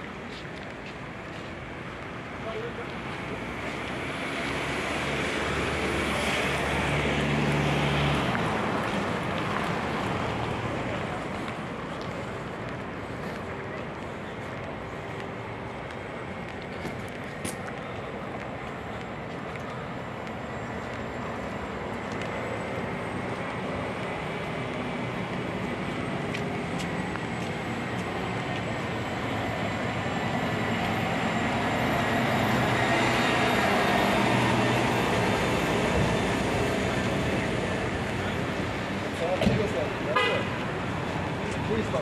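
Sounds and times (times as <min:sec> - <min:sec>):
rumble of passing vehicles: 0:00.0 - 0:42.0.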